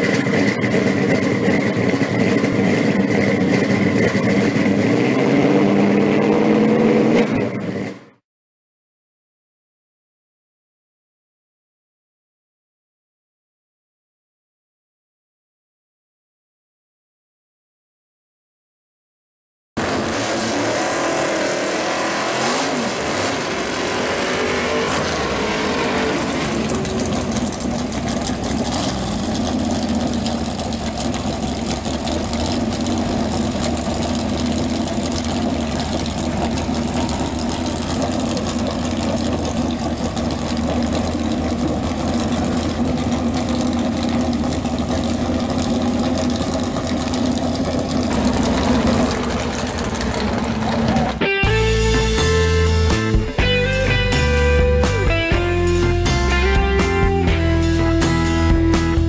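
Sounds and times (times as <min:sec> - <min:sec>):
race car engine running: 0:00.0 - 0:08.2, 0:19.8 - 0:59.0.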